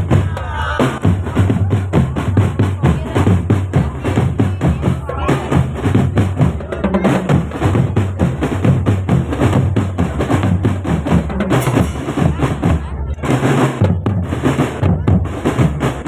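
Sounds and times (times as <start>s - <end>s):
marching drum band playing: 0.0s - 16.0s.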